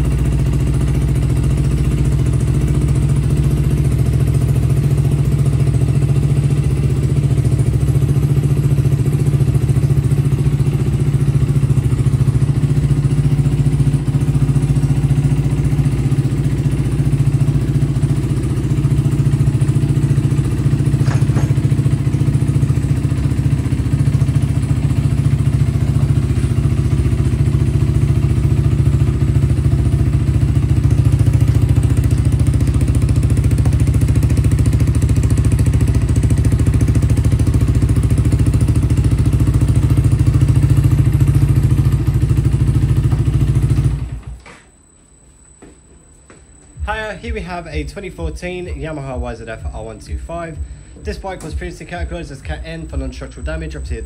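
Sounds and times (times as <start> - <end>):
motorcycle engine idling: 0.0 - 44.4, 46.8 - 54.0.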